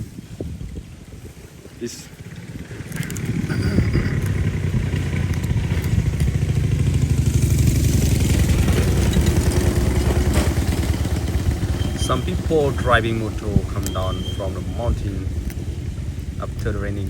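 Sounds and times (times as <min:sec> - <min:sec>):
motorbike engine passing close: 0:01.2 - 0:17.0.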